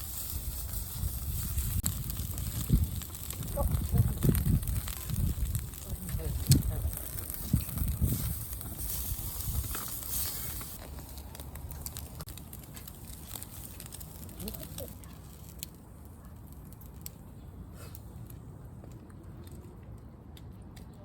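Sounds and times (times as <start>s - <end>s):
campfire crackling: 0.0s - 20.1s.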